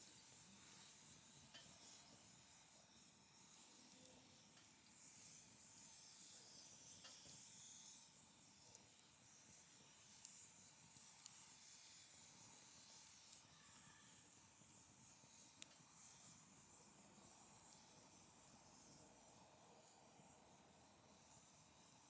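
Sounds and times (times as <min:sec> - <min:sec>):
fire crackles: 0:00.0 - 0:22.0
wood fire hissing: 0:00.0 - 0:22.0.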